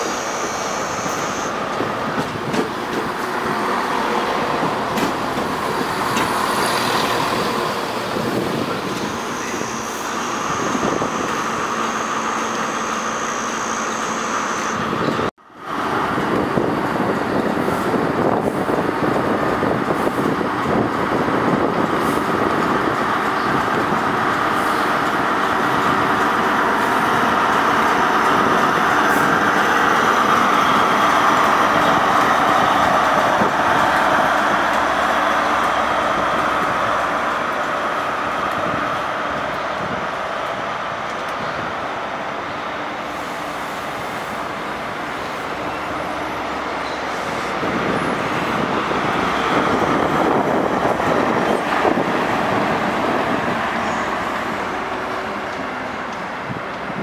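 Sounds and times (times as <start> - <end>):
diesel train engine passing: 0.0 - 57.0
wheels rumbling on rails: 0.0 - 57.0.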